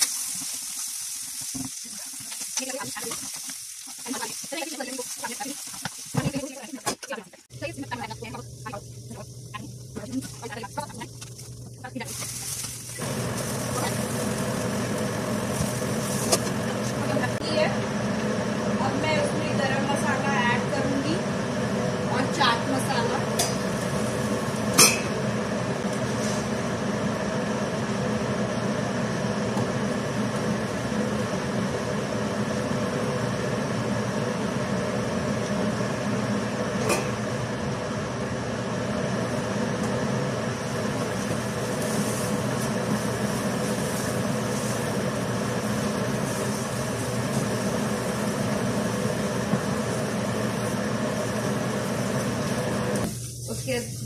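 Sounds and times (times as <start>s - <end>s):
exhaust fan humming: 0.0s - 54.0s.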